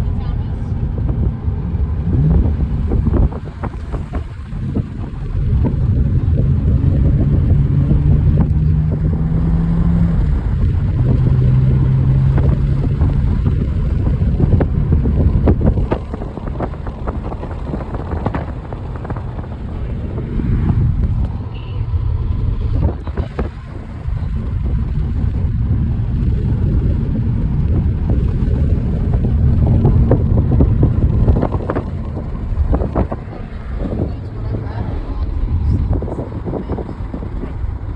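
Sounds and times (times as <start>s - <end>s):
car engine: 0.0s - 37.9s
road rumble: 0.0s - 37.9s
wind buffeting microphone: 0.0s - 37.9s.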